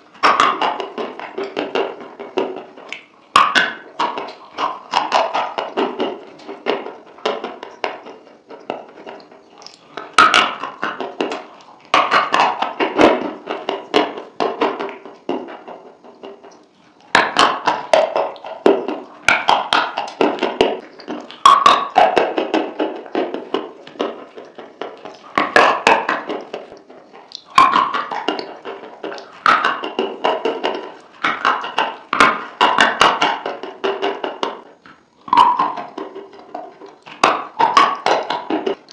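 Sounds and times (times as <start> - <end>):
crunching and chewing food: 0.0 - 38.9.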